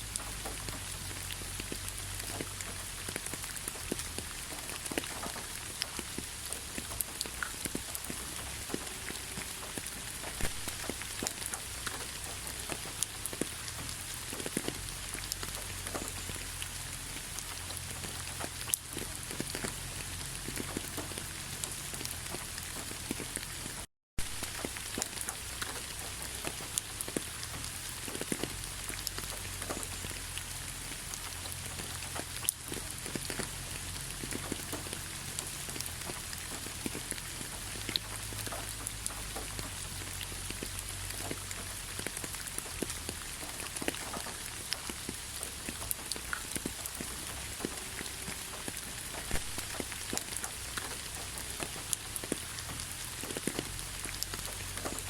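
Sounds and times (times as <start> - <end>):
raindrops ticking on surfaces: 0.0 - 55.0.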